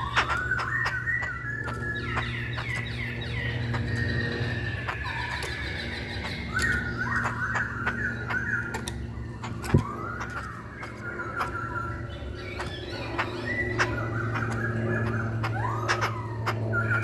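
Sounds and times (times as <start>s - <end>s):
bird whistling song: 0.0s - 17.0s
steady low hum: 0.0s - 17.0s.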